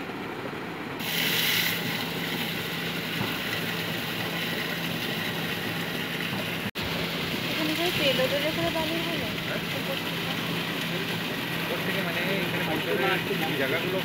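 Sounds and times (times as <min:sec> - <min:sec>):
low machine hum: 0:00.0 - 0:14.0
rushing water: 0:00.0 - 0:14.0.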